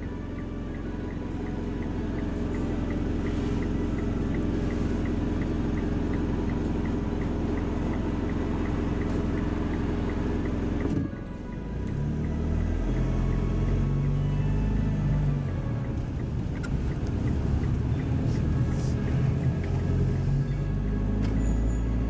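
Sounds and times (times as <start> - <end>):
faint light ticking: 0.0 - 14.2, 15.3 - 20.6
car engine running: 0.0 - 21.5.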